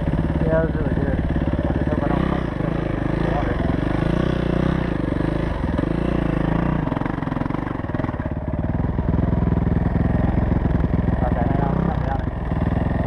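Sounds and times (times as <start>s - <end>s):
dirt bike engine at low revs: 0.0s - 13.0s.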